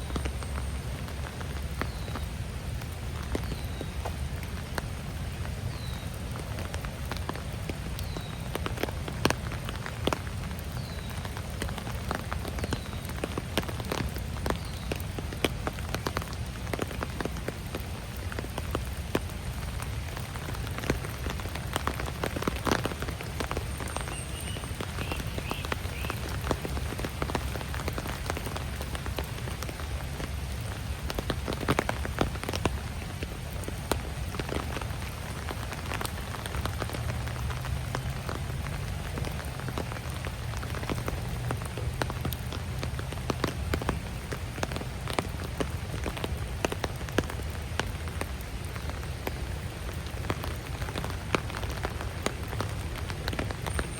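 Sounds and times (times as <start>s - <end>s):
raindrops tapping: 0.0s - 53.9s
steady rain: 0.0s - 53.9s.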